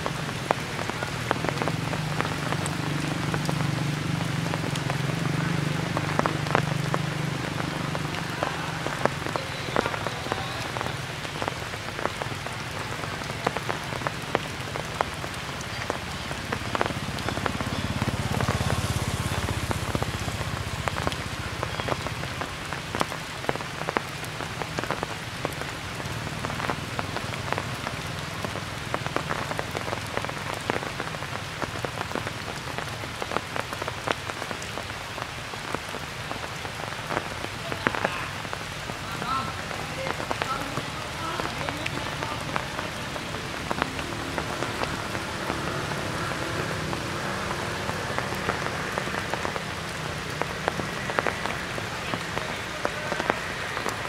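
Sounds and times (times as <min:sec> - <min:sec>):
raindrops striking close: 0:00.0 - 0:54.0
steady rain: 0:00.0 - 0:54.0.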